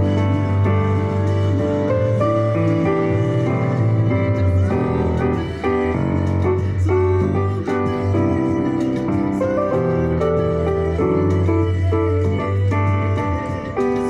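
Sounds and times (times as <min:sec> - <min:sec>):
electronic keyboard chords: 0:00.0 - 0:14.0.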